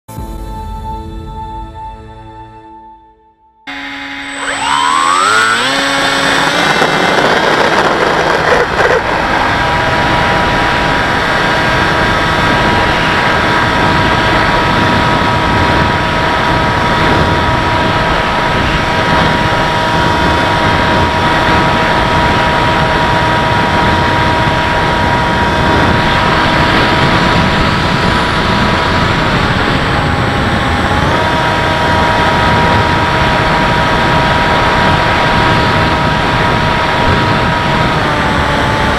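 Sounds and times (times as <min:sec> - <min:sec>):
electric motor and propeller whine: 0:03.7 - 0:38.9.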